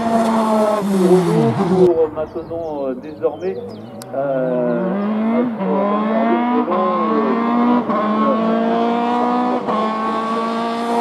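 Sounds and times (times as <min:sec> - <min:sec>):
race car engine accelerating: 0:00.0 - 0:02.4, 0:03.6 - 0:11.0.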